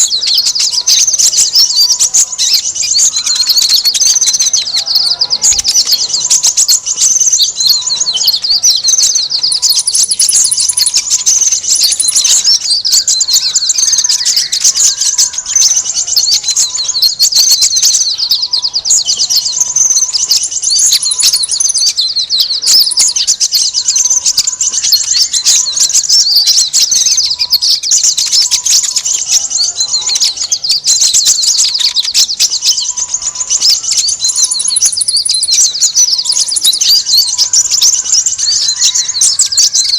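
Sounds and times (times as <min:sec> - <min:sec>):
small birds chirping and chattering: 0:00.0 - 0:39.9.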